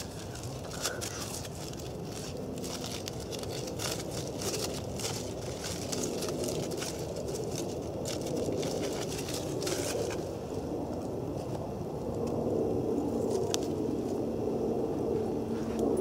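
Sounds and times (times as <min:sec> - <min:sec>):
campfire crackling: 0:00.0 - 0:14.2.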